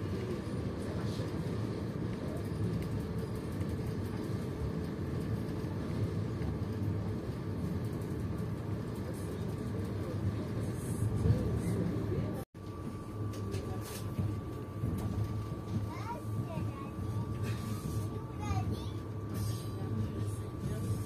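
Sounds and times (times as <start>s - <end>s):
train rumbling along track: 0.0s - 21.0s.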